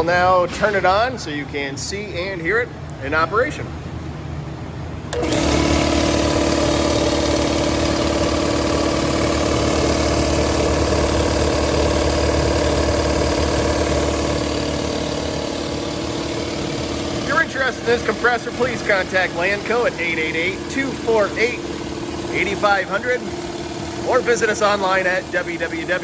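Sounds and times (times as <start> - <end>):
air compressor running: 5.0 - 26.0.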